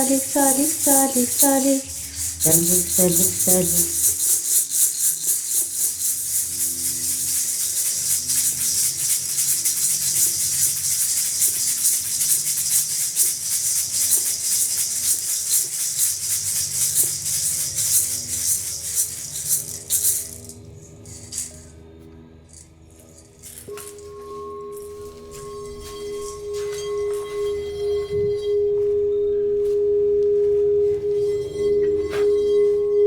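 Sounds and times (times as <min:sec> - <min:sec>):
hand rattle shaking: 0:00.0 - 0:21.7, 0:22.5 - 0:27.3.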